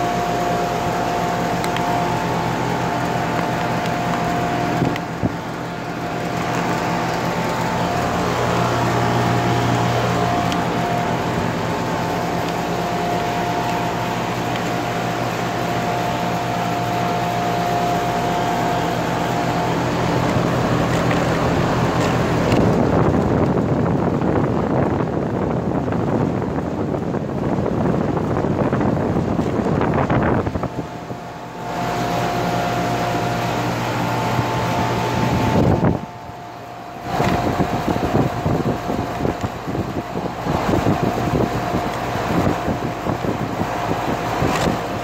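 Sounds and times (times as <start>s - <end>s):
heat pump humming: 0.0s - 45.0s
steady rushing noise: 0.0s - 45.0s.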